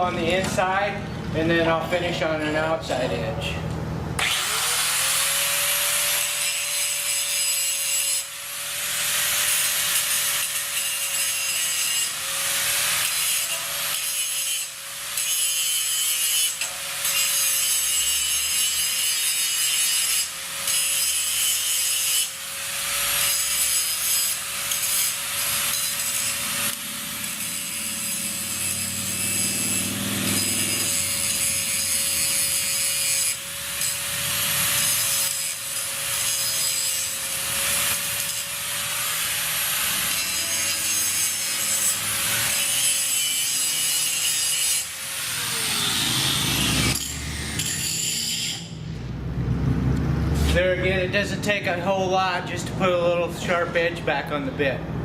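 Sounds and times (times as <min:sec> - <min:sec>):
grinder whining: 0:04.2 - 0:48.8.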